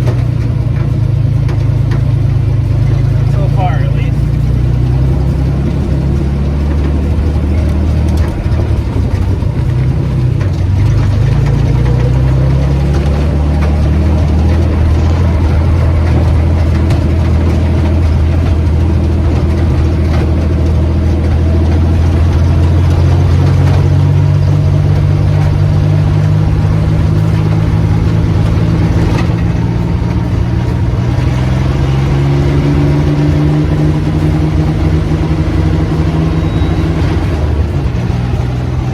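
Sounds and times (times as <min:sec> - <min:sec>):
truck engine running loud: 0:00.0 - 0:38.9.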